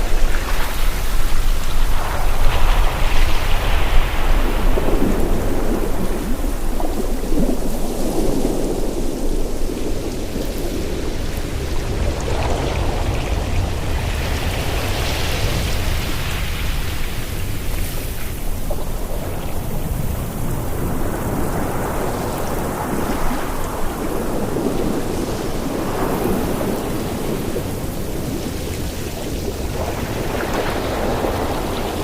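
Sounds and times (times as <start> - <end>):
sea waves washing in: 0.0 - 32.0
wind buffeting microphone: 0.0 - 32.0.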